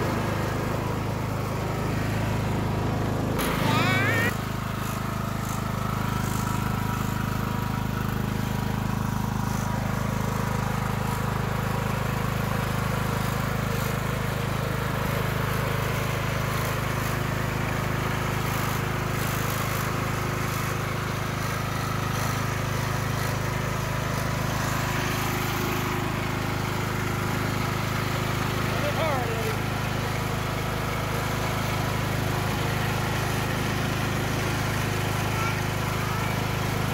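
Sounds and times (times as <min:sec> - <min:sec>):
riding lawn mower engine drone: 0:00.0 - 0:36.9.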